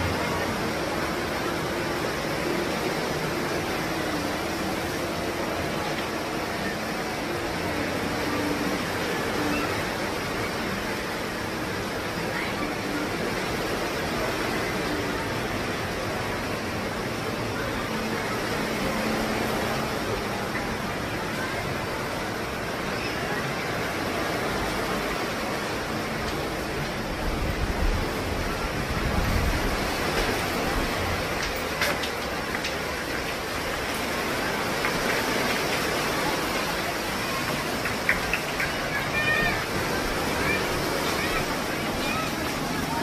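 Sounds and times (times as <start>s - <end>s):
rushing wind: 0.0s - 43.0s.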